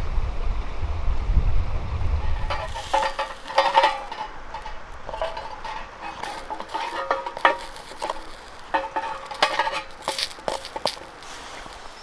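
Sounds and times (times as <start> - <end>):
metal tongs scraping a tin: 2.2 - 12.0.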